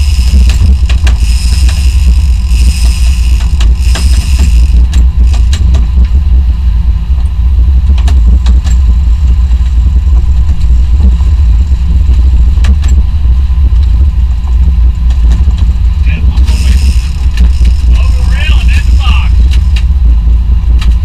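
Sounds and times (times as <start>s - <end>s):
water noise: 0.0s - 8.4s, 9.0s - 20.7s
boat engines rumbling: 0.0s - 21.0s
wind: 0.0s - 21.0s.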